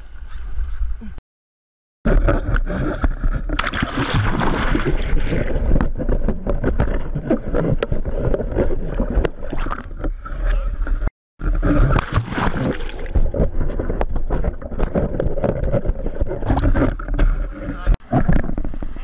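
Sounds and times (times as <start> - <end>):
water rushing and gurgling: 2.1 - 19.0.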